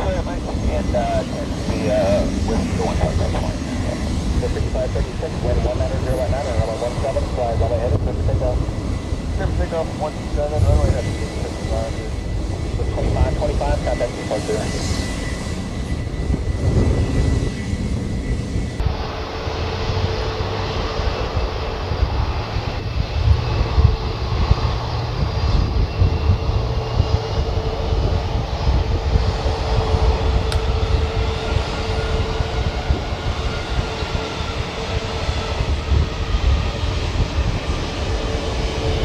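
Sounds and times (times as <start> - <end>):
jet engines deep rumble: 0.0 - 39.0.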